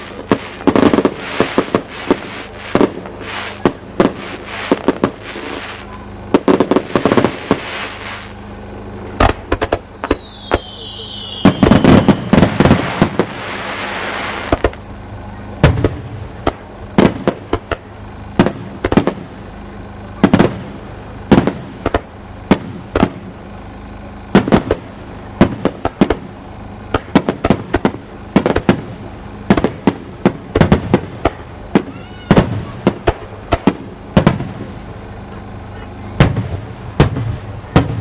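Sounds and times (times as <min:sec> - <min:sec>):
crackling hiss: 0:00.0 - 0:38.0
fireworks bursting: 0:00.0 - 0:38.0.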